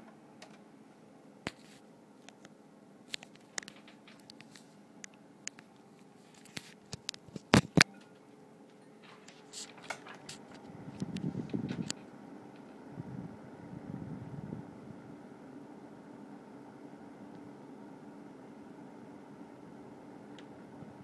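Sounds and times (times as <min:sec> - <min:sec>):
humidifier humming: 0:00.0 - 0:21.0.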